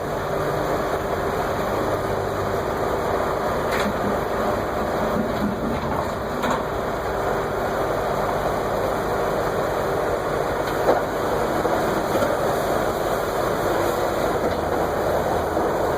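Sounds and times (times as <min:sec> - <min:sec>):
excavator diesel engine running: 0:00.0 - 0:15.9.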